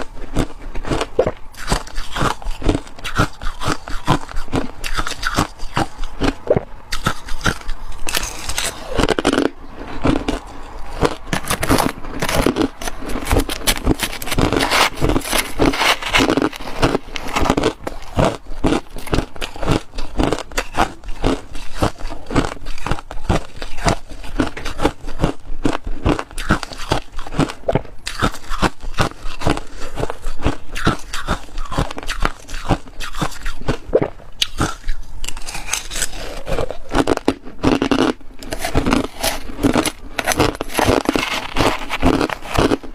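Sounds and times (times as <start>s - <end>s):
ice being chewed: 0.0s - 42.9s.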